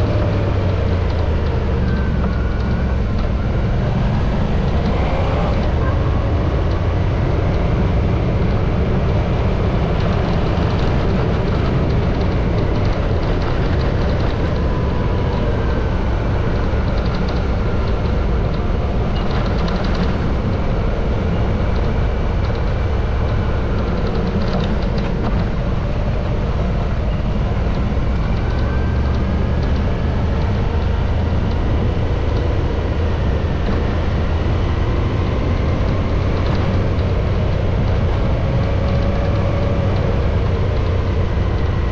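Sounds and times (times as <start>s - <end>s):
motorcycle engine rumbling: 0.0s - 41.9s.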